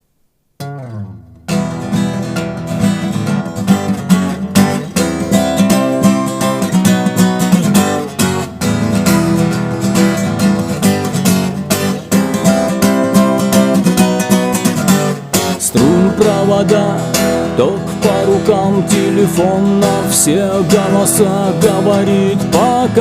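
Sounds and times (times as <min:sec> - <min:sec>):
guitar chord ringing: 0:00.6 - 0:23.0
guitar strumming: 0:00.6 - 0:23.0.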